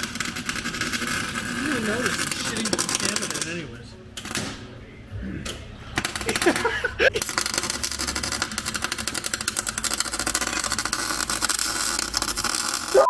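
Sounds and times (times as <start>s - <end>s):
welding arc crackling: 0.0s - 3.6s, 6.0s - 13.0s.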